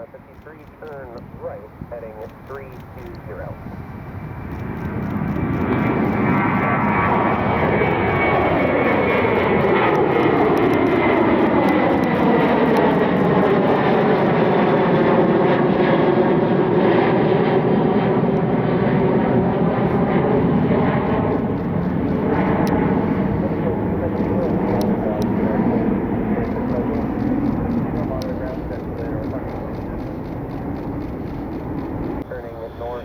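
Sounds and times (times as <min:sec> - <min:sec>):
jet airliner engines roaring: 0:00.0 - 0:33.0.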